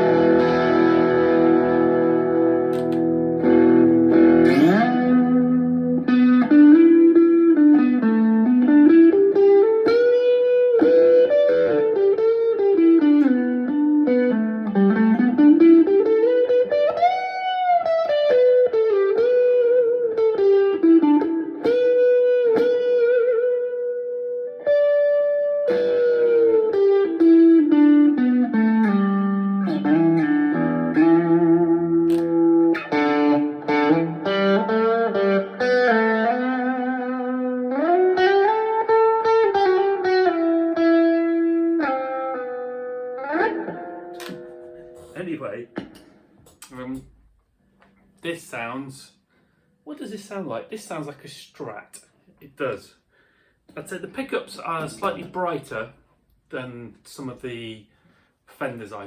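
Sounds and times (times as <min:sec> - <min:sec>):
electric guitar chord stabs: 0:00.0 - 0:46.7, 0:54.6 - 0:55.7
electric guitar lead line: 0:00.0 - 0:46.7, 0:54.6 - 0:55.6.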